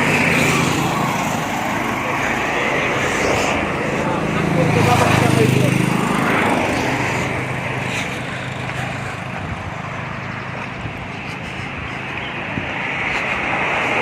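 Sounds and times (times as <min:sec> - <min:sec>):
engine hum: 0:00.0 - 0:14.0
road traffic passing: 0:00.0 - 0:14.0.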